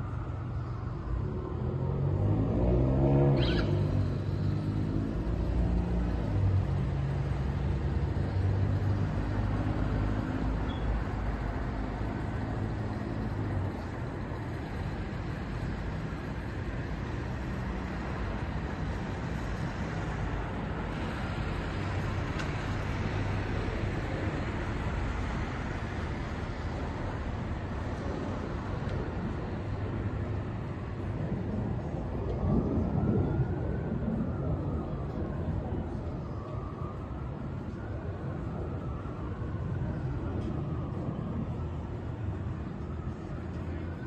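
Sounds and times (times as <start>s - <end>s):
city traffic rumble and hiss: 0.0s - 44.0s
low engine hum: 0.0s - 44.0s.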